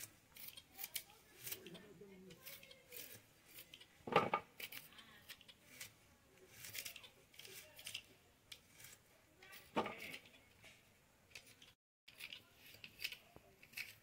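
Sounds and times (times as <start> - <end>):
knife slicing vegetables: 0.0 - 14.0.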